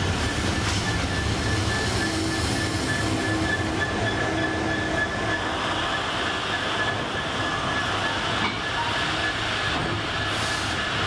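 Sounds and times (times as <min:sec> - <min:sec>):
diesel locomotive passing: 0:00.0 - 0:11.0
high wheel squeal: 0:00.2 - 0:10.3.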